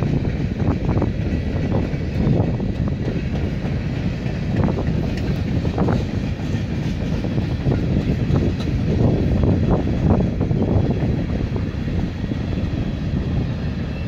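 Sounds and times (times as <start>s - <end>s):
wheels clacking: 0.0s - 14.0s.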